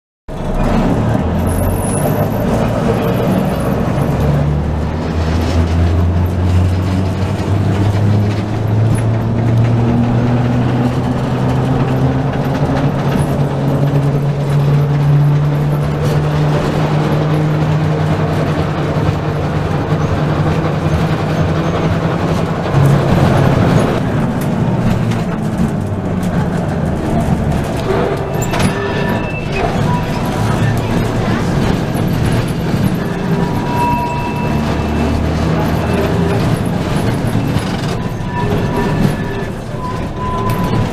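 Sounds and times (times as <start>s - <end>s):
electric tram motor hum rising: 0.3s - 40.9s
tram wheels rumbling on rails: 0.3s - 40.9s.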